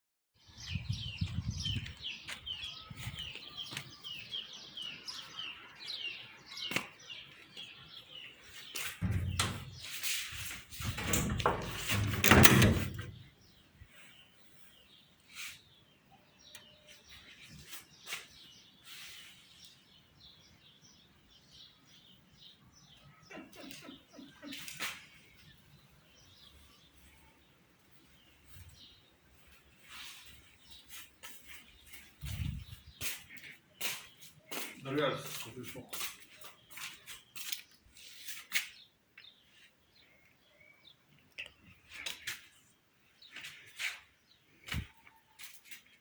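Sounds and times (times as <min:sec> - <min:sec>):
small birds chirping: 0:00.4 - 0:46.0.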